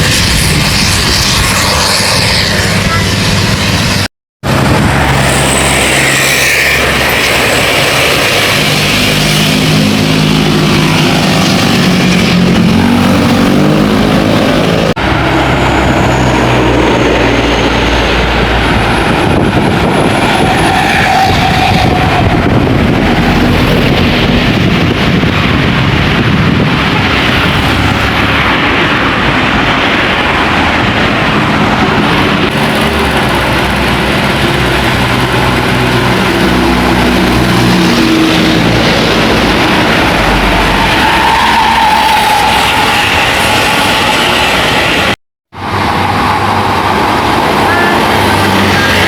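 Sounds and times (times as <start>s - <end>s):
buses driving past: 0.0s - 49.0s.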